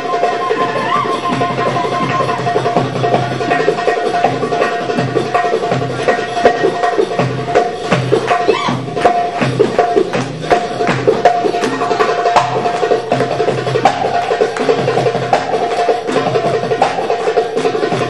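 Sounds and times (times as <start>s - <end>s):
hand drums playing: 0.0s - 18.0s.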